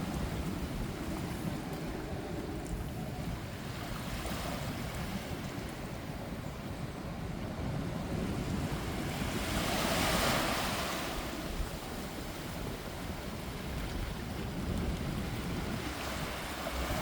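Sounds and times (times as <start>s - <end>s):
ocean waves breaking on beach: 0.0s - 17.0s
wind buffeting microphone: 0.0s - 17.0s.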